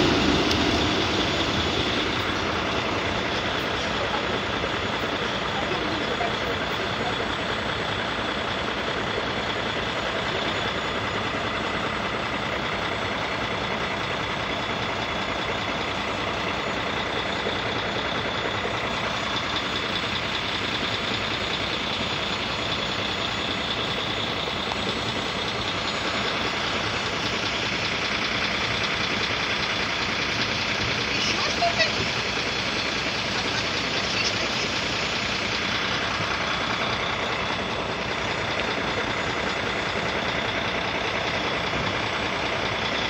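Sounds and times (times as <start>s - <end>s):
vehicles idling: 0.0s - 43.0s.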